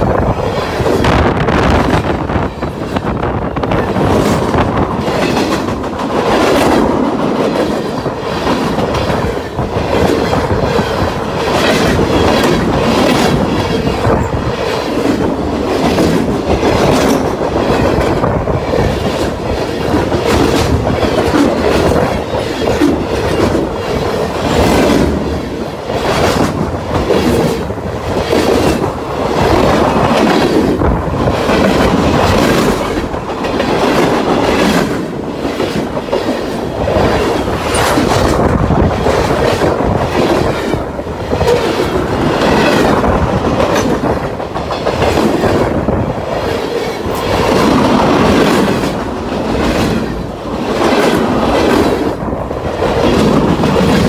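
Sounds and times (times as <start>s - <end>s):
steel wheels rushing on rail: 0.0s - 54.0s.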